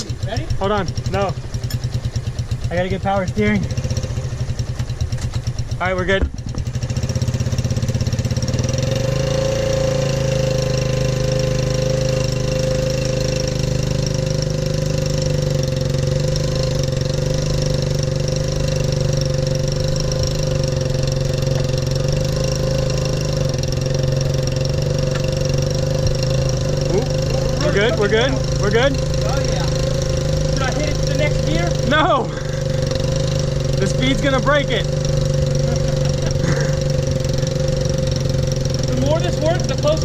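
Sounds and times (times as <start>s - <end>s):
engine running at low revs: 0.0s - 40.0s.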